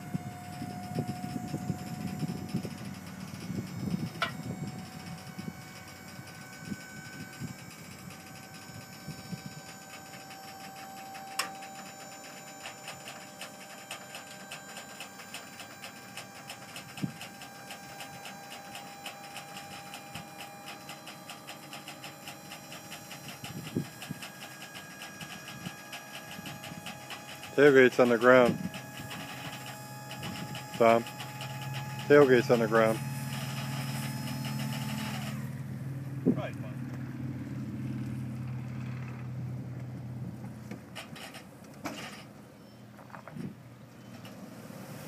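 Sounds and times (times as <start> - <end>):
hydraulic pump whine with ticking: 0.0 - 44.4.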